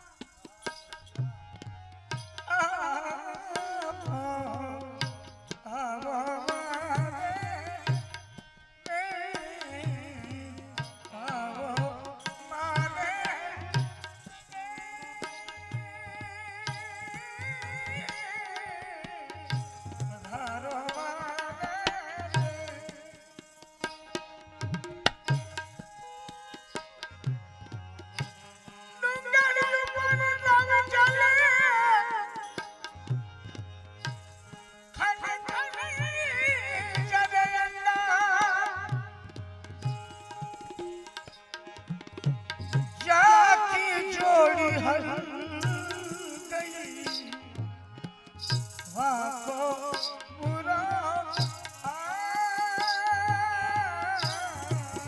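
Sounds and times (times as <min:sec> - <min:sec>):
tabla drumming: 0:00.0 - 0:55.0.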